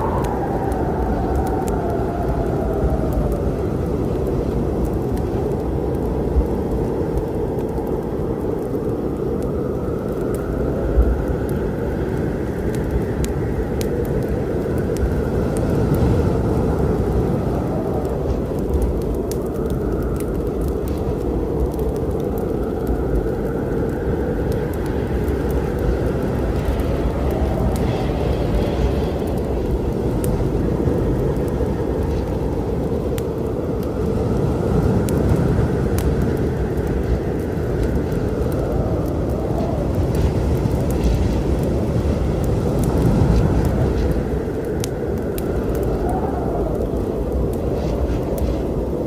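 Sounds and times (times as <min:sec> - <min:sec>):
storm rumble: 0:00.0 - 0:49.0
wood fire crackling: 0:00.0 - 0:49.0.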